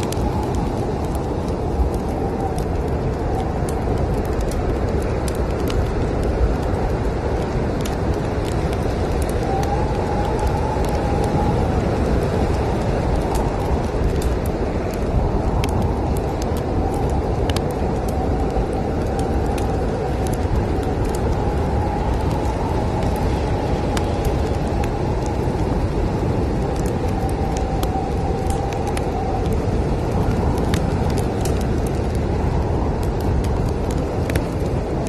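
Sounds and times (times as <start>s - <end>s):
faint wind whistling: 0.0s - 35.0s
log fire crackling and popping: 0.0s - 35.0s
snowstorm wind blowing: 0.0s - 35.0s.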